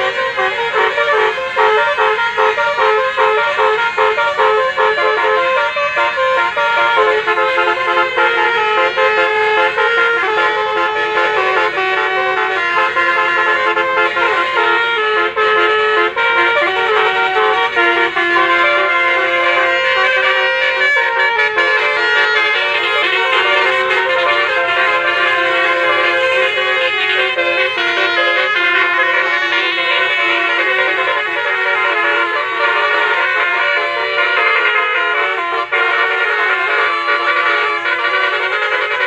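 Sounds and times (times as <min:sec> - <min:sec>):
multi-tone musical air horns: 0:00.0 - 0:39.0.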